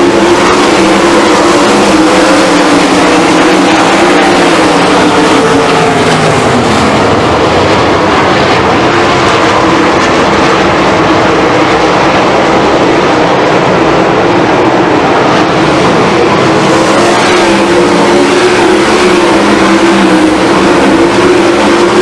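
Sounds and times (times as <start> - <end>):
racing car engines passing: 0.0 - 22.0.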